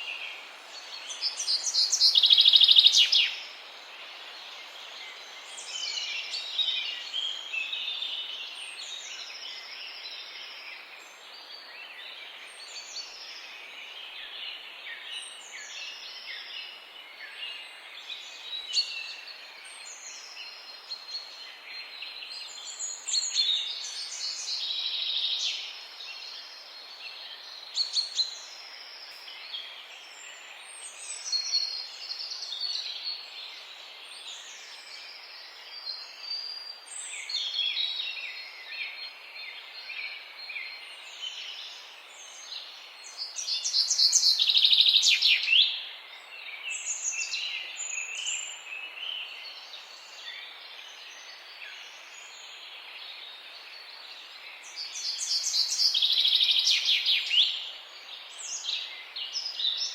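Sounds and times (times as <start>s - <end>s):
background hiss: 0.0s - 59.9s
songbirds chirping and singing: 0.0s - 59.9s.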